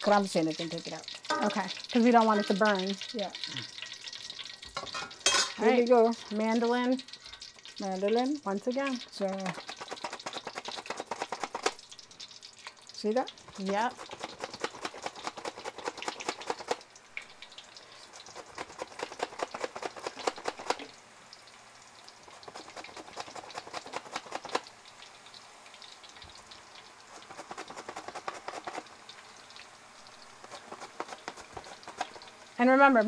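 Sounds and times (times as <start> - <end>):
oil sizzling and crackling: 0.0 - 33.0.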